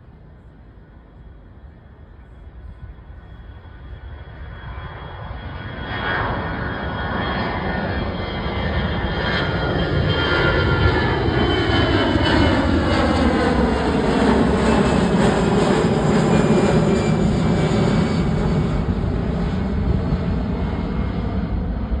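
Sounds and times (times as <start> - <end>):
jet engines on take-off: 0.0 - 22.0.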